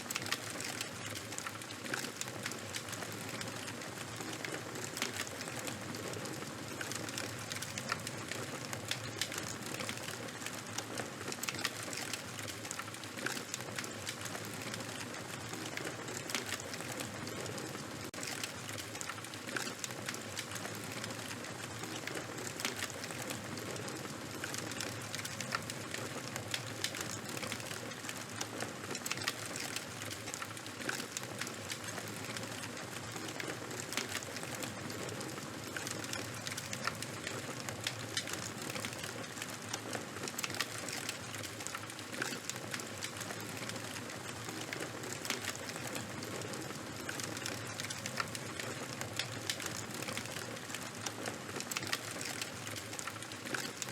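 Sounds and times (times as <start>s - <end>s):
bonfire crackling: 0.0s - 53.9s.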